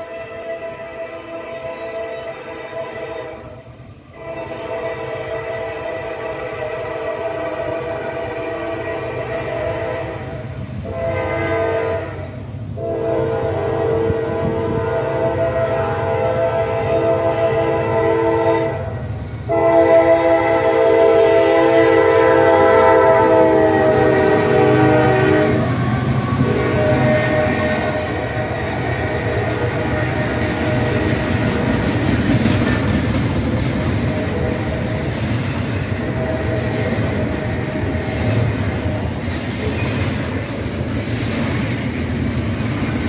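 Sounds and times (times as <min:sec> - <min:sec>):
locomotive horn chord: 0:00.0 - 0:31.7, 0:34.0 - 0:35.1, 0:35.8 - 0:38.1
diesel locomotives rumbling: 0:00.0 - 0:43.0.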